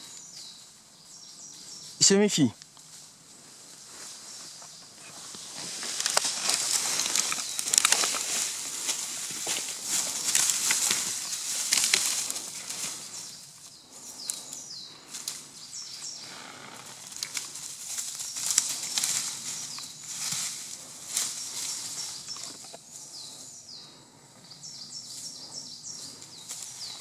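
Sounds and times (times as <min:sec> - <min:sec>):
dry leaves and twigs crackling: 0:00.0 - 0:27.0.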